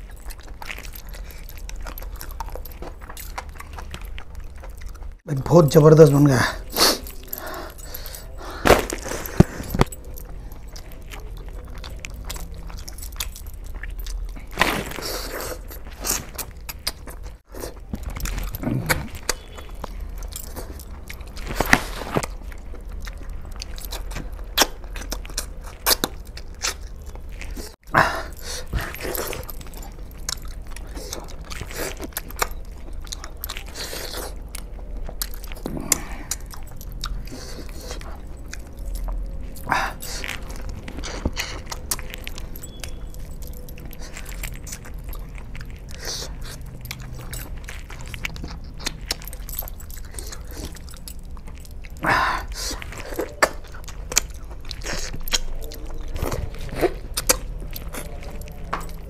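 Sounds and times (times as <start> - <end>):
low steady hum: 0.0 - 59.0
wet chewing and lip smacking: 0.0 - 59.0.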